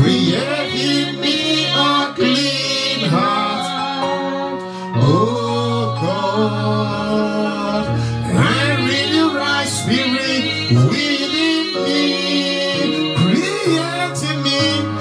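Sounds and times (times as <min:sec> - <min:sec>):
person singing with instrumental music: 0:00.0 - 0:15.0.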